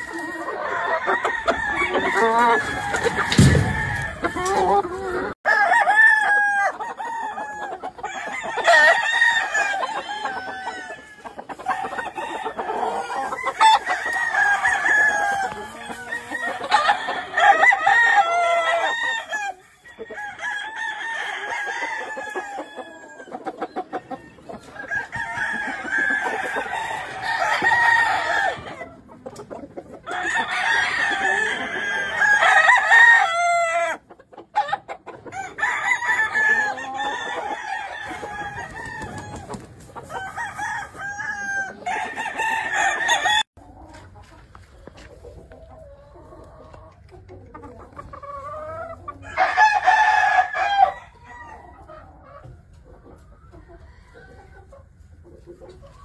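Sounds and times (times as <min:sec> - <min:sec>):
roosters crowing: 0:00.0 - 0:29.1, 0:30.0 - 0:43.5, 0:48.4 - 0:52.1.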